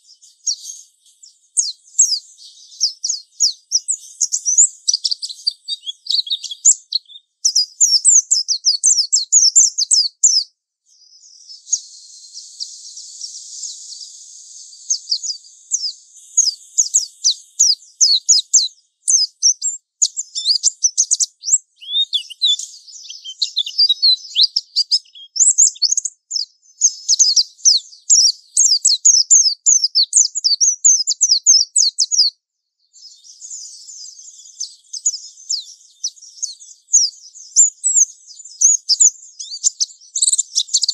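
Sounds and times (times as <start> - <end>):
bird chirping and twittering: 0.0 - 40.9.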